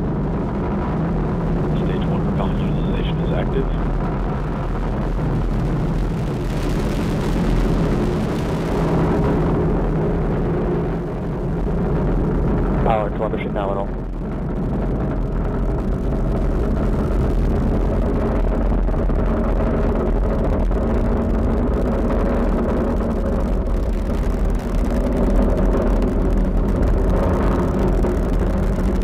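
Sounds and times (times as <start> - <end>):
rocket engines roaring: 0.0 - 29.0.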